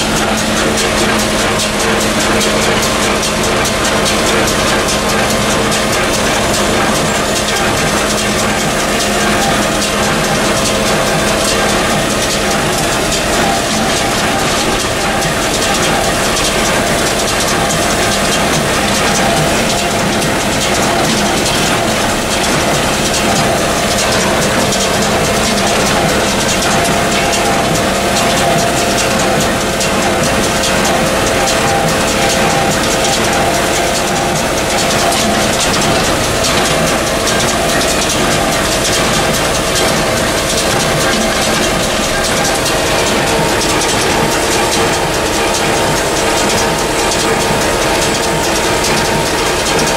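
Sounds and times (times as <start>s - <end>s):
baler clattering rhythmically: 0.0s - 49.9s
tractor diesel engine running: 0.0s - 49.9s.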